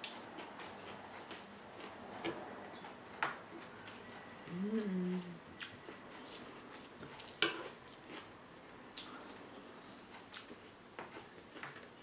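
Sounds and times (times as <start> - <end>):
faint room noise: 0.0 - 12.0.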